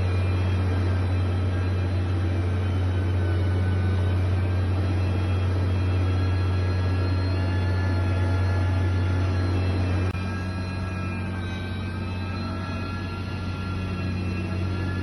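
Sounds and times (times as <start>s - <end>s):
diesel machinery engine droning: 0.0s - 15.0s.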